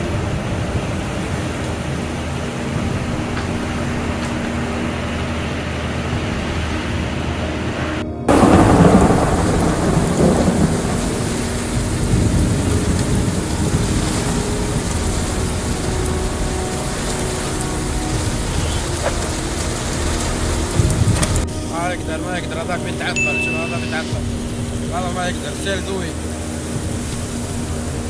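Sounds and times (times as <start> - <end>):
heavy rain hissing: 0.0 - 28.0
steady rushing noise with low hum: 0.0 - 28.0
thunder rumble: 0.0 - 28.0.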